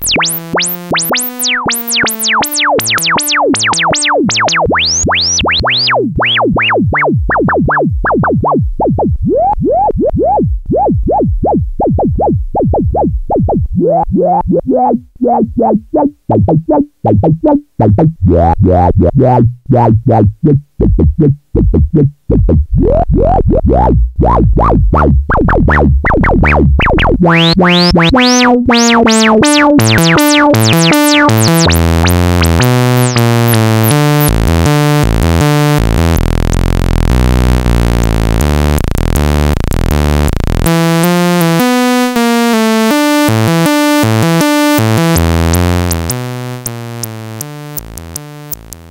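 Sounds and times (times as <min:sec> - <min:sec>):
sawtooth synth sequence: 0:00.0 - 0:21.4, 0:22.3 - 0:48.9.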